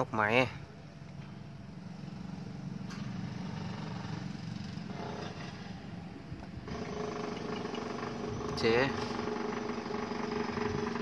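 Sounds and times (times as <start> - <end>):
motorcycle engine idling: 0.6 - 11.0.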